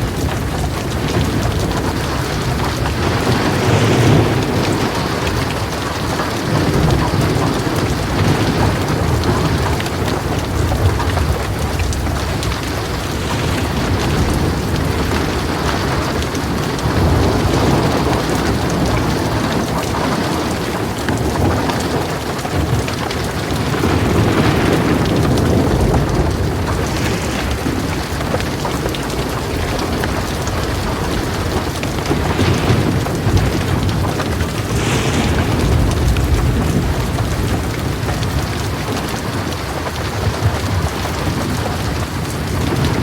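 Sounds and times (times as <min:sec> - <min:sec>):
heavy rain pouring: 0:00.0 - 0:43.0
thunder rumbling: 0:00.0 - 0:43.0.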